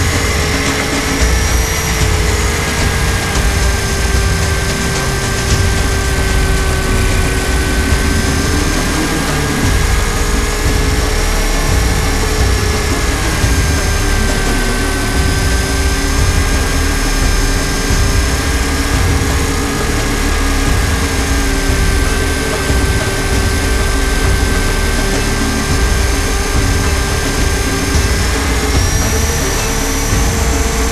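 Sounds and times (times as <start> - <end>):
motor and gears whining: 0.0 - 30.9
rotor wash rumble: 0.0 - 30.9.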